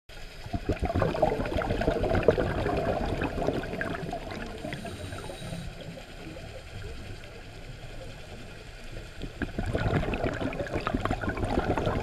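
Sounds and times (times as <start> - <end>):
muffled underwater bubbling: 0.2 - 12.0.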